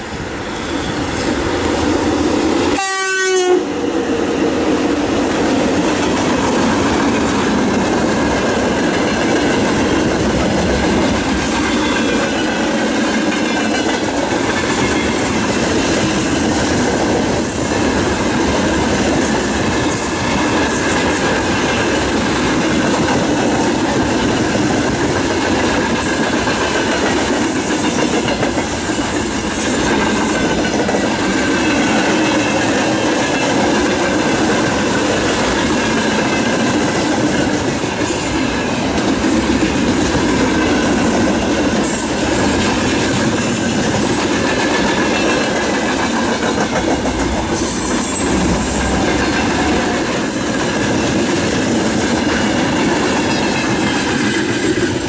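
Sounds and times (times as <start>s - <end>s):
train wheels rumbling on rails: 0.0s - 55.0s
clickety-clack over rail joints: 5.0s - 55.0s.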